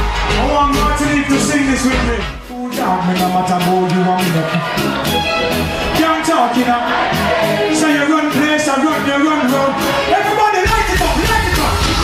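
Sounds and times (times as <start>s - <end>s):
dancehall music: 0.0s - 12.0s
heavy bass line: 0.0s - 12.0s.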